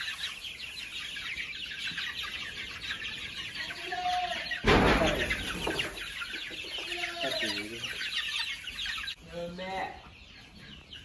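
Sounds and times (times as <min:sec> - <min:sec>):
chicks peeping and cheeping: 0:00.0 - 0:11.0.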